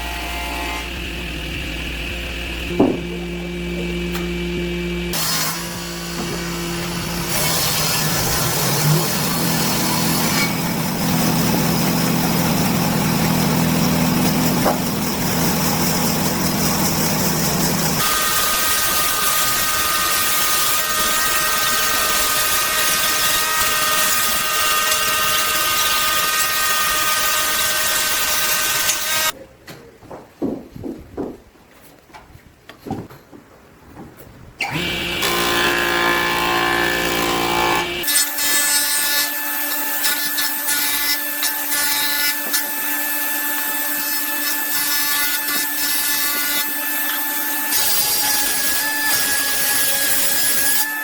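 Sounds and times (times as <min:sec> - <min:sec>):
electric woodworking power tools: 0:00.0 - 0:29.4, 0:34.6 - 0:51.0.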